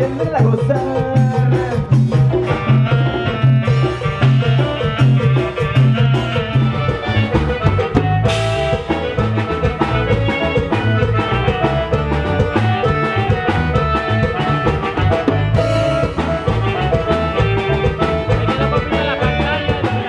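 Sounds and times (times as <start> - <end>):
live latin band music: 0.0 - 20.0.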